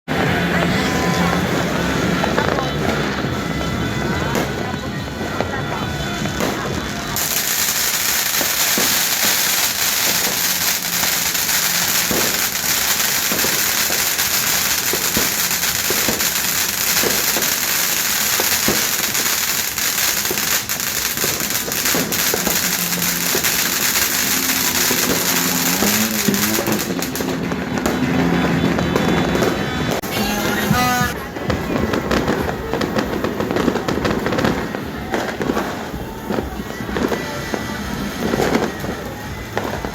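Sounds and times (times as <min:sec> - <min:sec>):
firecrackers crackling: 0:00.1 - 0:39.9.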